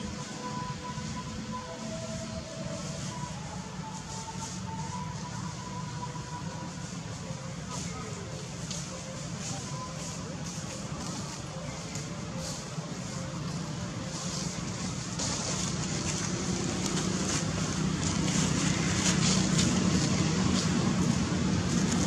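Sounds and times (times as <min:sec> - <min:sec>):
steady hiss: 0:00.0 - 0:22.0
vehicle engine hum: 0:00.0 - 0:22.0.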